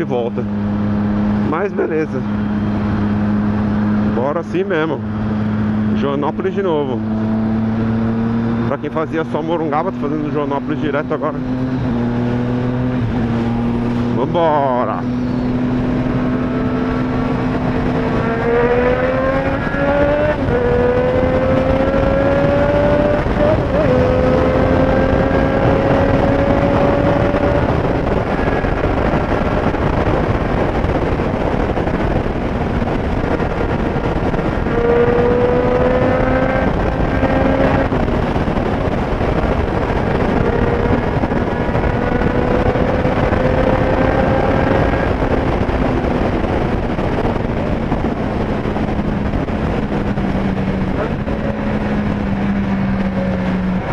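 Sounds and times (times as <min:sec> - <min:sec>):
motorcycle engine accelerating: 0:00.0 - 0:53.9
wind and road noise: 0:00.0 - 0:53.9.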